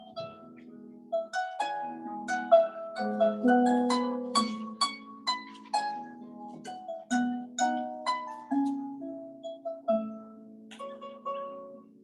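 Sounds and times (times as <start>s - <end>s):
plucked instrumental melody: 0.0s - 12.0s.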